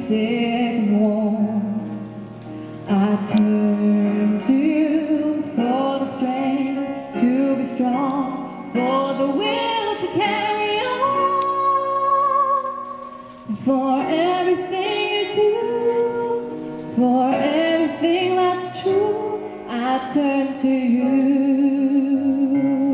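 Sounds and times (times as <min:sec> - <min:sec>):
woman singing a slow ballad: 0:00.0 - 0:02.1, 0:02.8 - 0:22.9.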